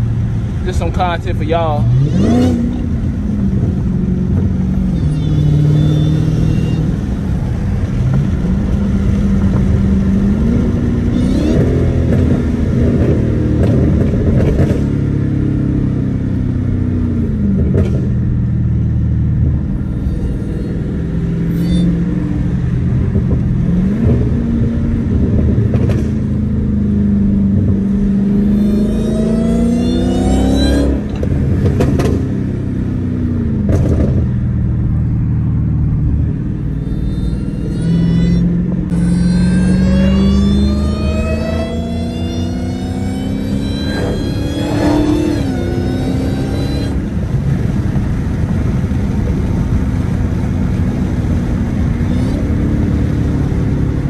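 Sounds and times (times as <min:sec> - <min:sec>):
car engine revving through gears: 0:00.0 - 0:18.3, 0:19.4 - 0:54.0
high supercharger whine: 0:00.0 - 0:54.0.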